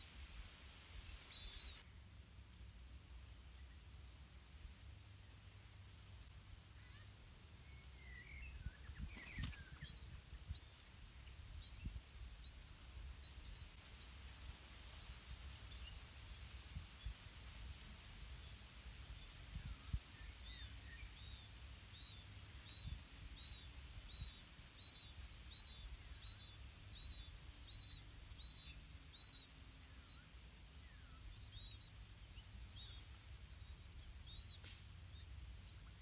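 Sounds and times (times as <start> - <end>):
bird chirping: 0.0 - 1.8, 6.6 - 36.0.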